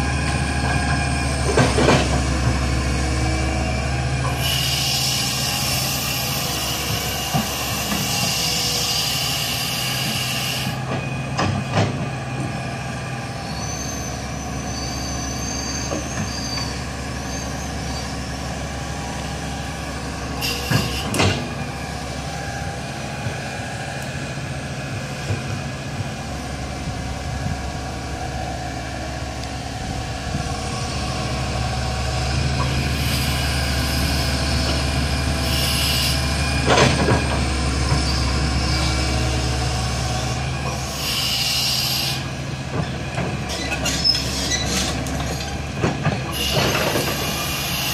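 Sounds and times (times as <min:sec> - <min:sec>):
excavator diesel engine under load: 0:00.0 - 0:47.9.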